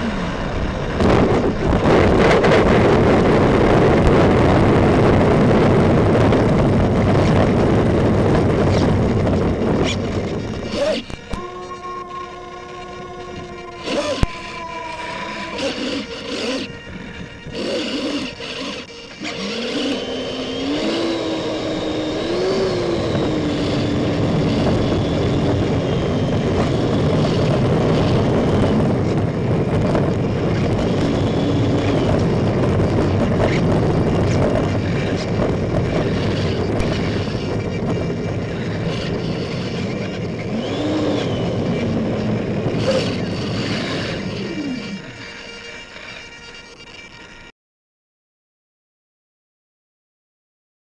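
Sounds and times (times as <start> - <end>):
electric fan whine: 0.0 - 47.5.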